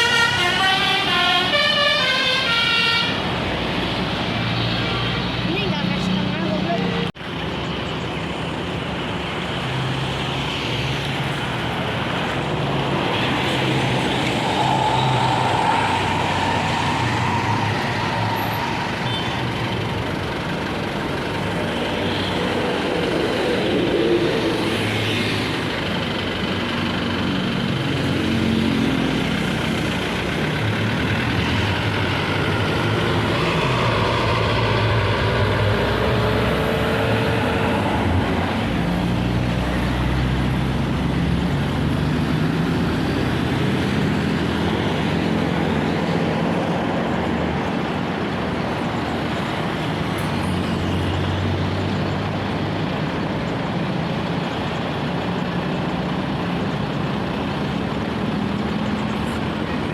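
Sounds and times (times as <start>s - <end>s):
heavy road traffic: 0.0s - 59.9s.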